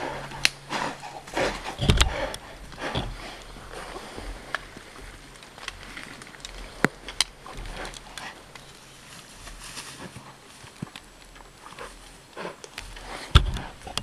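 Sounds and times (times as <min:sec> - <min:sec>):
rustling in grass and brush: 0:00.0 - 0:14.0
soft footfalls: 0:01.2 - 0:14.0.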